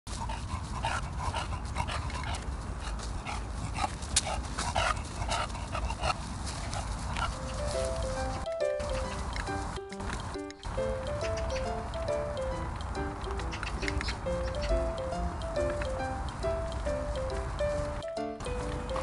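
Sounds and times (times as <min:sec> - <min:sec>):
dog panting: 0:00.1 - 0:09.6, 0:11.0 - 0:17.5.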